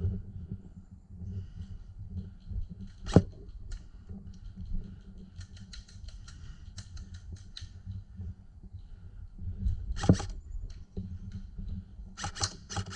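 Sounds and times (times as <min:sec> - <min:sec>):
low rumble of movement: 0:00.0 - 0:12.9
faint irregular clicks: 0:01.3 - 0:12.9.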